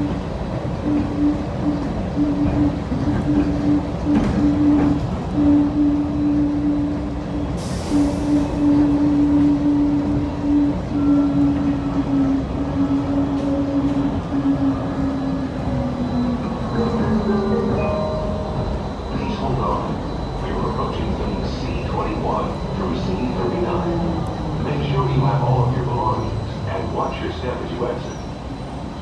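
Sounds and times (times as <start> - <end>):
train rumble with motor hum: 0.0 - 29.0.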